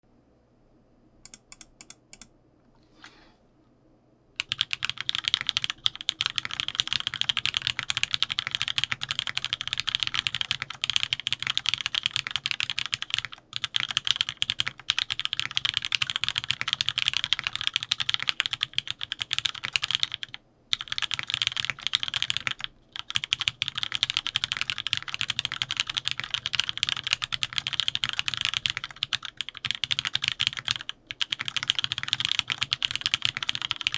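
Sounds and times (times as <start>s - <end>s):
fast typing on mechanical keyboard: 4.4s - 33.9s.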